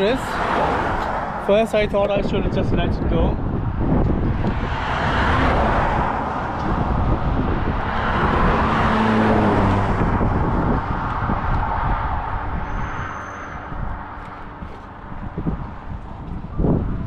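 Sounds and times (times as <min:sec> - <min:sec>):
tyre and engine noise: 0:00.0 - 0:17.0
vehicles passing at speed: 0:00.0 - 0:17.0.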